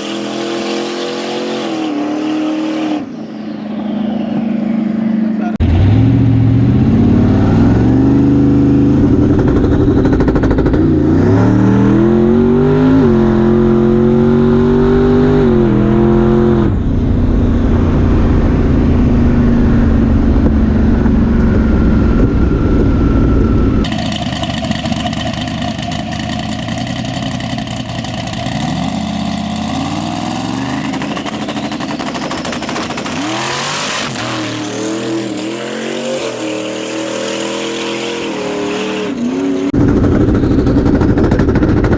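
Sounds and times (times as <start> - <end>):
drag racing engine accelerating: 0.0 - 41.9
quieter engine revving: 0.0 - 41.9.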